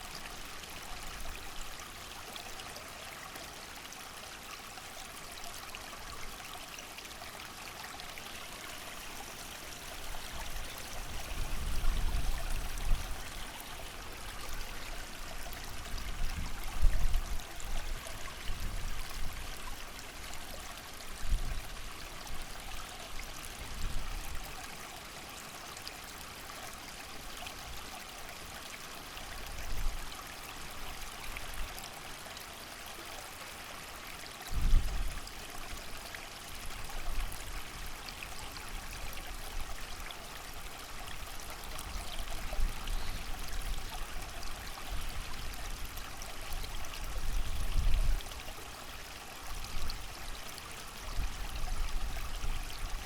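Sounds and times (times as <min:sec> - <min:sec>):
creek running: 0:00.0 - 0:53.0
rain: 0:00.0 - 0:53.0.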